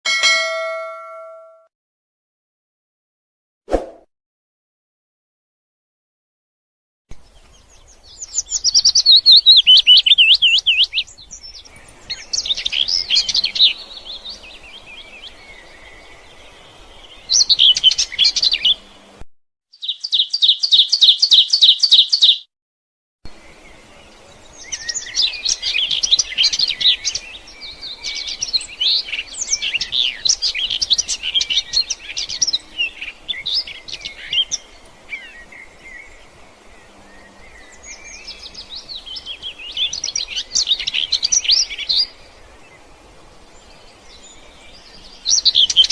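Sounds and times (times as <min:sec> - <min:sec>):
songbirds chirping and trilling: 0:07.1 - 0:19.2, 0:19.8 - 0:22.5, 0:23.3 - 0:45.9.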